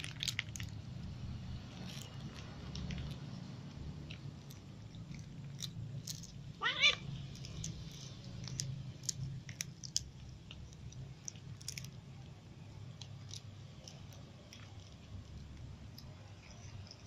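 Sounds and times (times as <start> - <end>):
cats crunching cracker sticks: 0.0 - 17.0.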